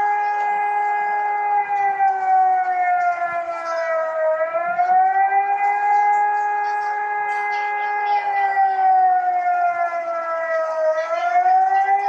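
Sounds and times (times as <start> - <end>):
civil defence siren: 0.0 - 12.0.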